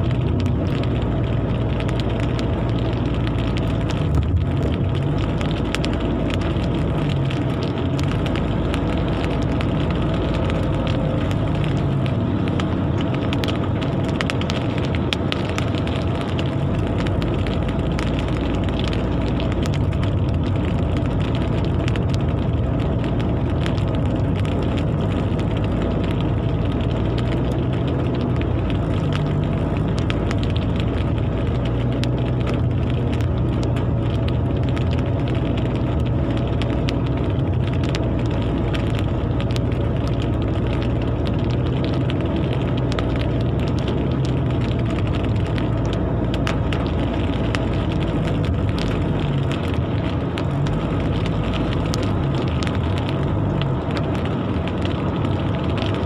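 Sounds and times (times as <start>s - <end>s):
rain on glass: 0.0s - 56.0s.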